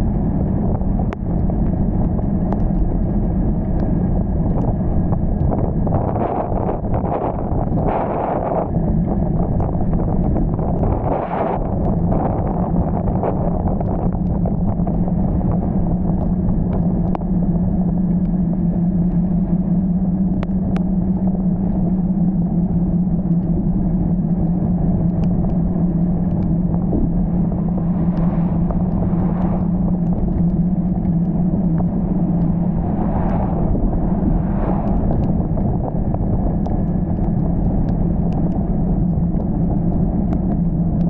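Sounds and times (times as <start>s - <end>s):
faint ticks: 0.0s - 33.6s, 34.3s - 41.0s
car engine humming: 0.0s - 41.0s.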